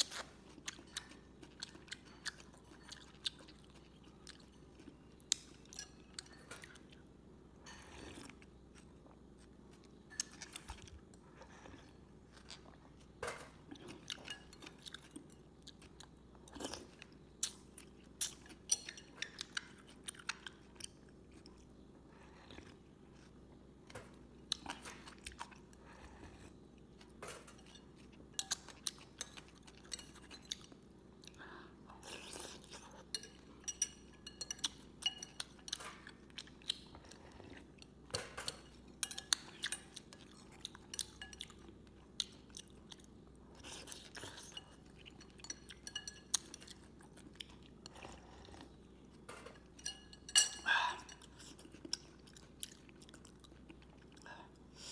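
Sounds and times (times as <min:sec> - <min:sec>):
person chewing food: 0:00.0 - 0:07.0, 0:07.7 - 0:54.9.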